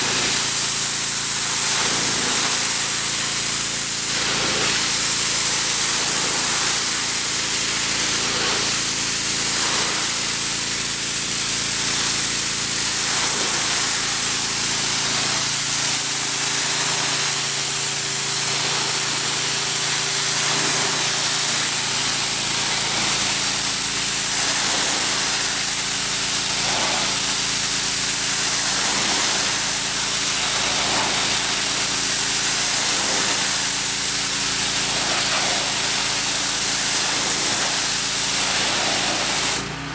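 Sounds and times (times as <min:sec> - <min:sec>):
pressure washer motor running: 0:00.0 - 0:39.9
pressure washer water jet hiss: 0:00.0 - 0:39.9.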